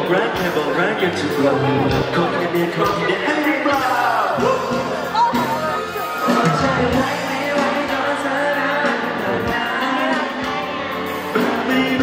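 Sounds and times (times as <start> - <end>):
live pop song with singing: 0.0 - 12.0.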